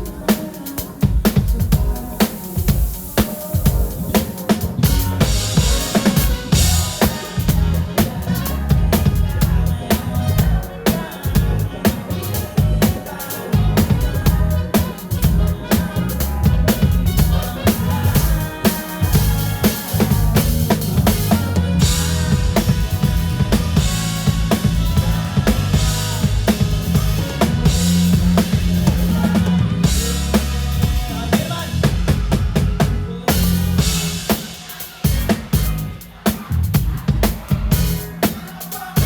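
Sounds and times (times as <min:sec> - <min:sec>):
drum kit beat: 0:00.0 - 0:39.0
live band playing: 0:00.0 - 0:39.0.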